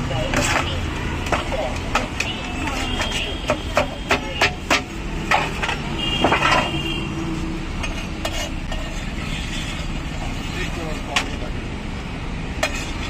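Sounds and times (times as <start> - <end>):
steel plates scraping a griddle: 0.2 - 11.4, 12.6 - 13.0.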